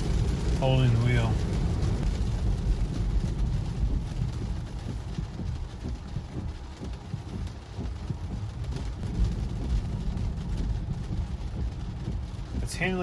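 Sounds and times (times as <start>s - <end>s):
low road rumble: 0.0s - 13.0s
rain ticking on car: 0.0s - 13.0s
tyres on wet road: 0.0s - 13.0s.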